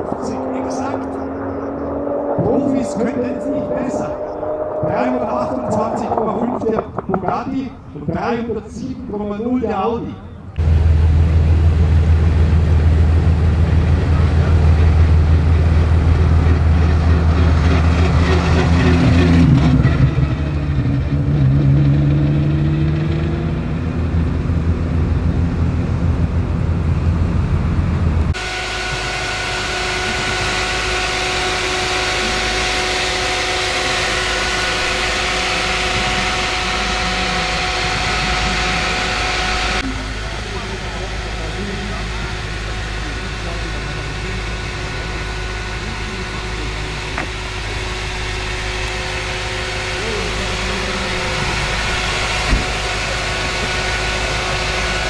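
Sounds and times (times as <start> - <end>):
car engine revving: 0.0 - 8.7, 10.6 - 55.0
car engine idling: 0.0 - 9.3, 10.2 - 55.0.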